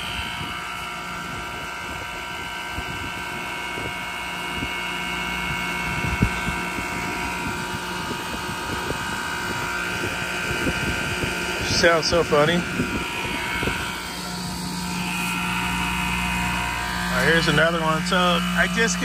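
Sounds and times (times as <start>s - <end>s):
compressor humming and whining: 0.0s - 19.0s.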